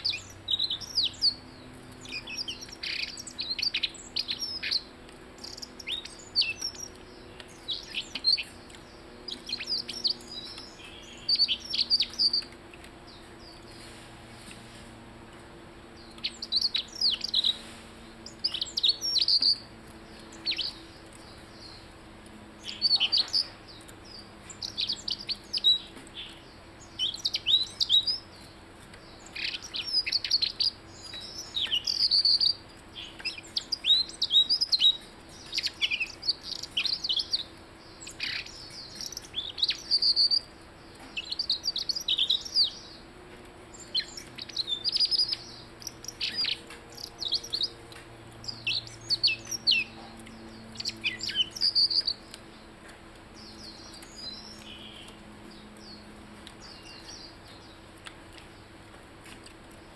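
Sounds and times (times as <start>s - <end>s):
bird singing high chirps: 0.0s - 13.8s, 15.9s - 21.9s, 22.5s - 43.0s, 43.7s - 52.7s, 53.4s - 57.8s.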